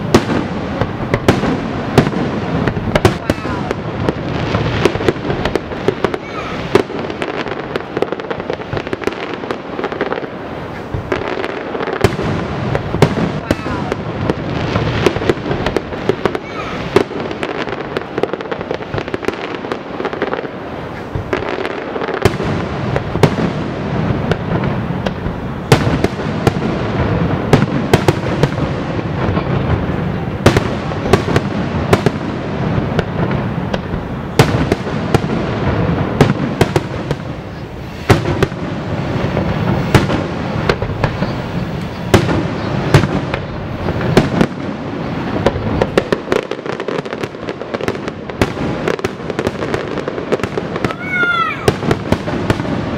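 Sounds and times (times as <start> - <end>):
fireworks booming: 0.0 - 52.9
fireworks rumble and crackle: 0.0 - 52.9.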